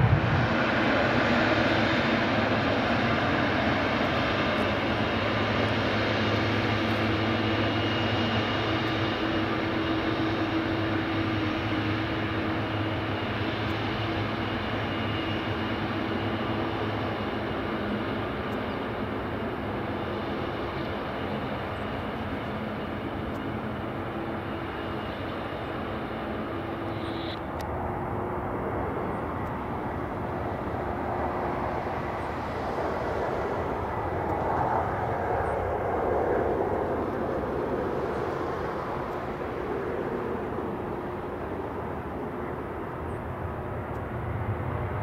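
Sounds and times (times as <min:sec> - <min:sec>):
airliner approach engine roar: 0:00.0 - 0:45.0
jet engine whine and rush: 0:00.0 - 0:45.0.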